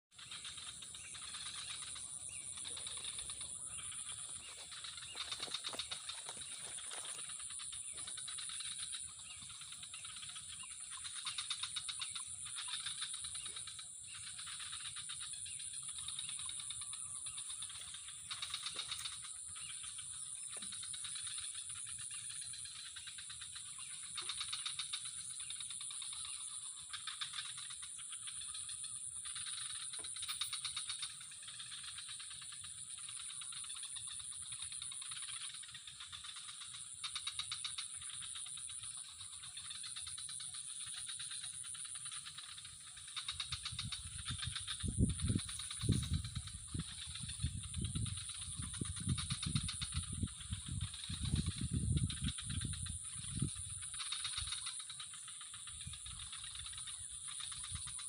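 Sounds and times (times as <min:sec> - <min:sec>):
chorus of calling animals: 0:00.1 - 0:58.0.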